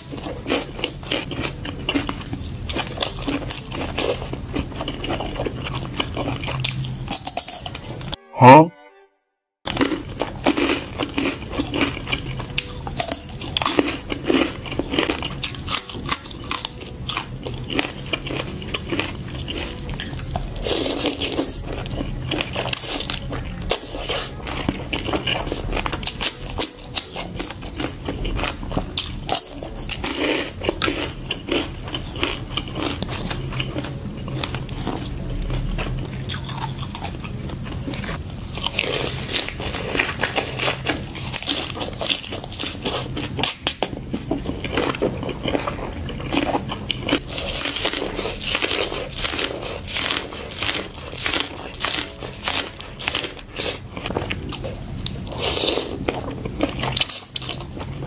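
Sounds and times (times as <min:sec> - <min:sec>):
soft chewing: 0:09.7 - 0:58.0.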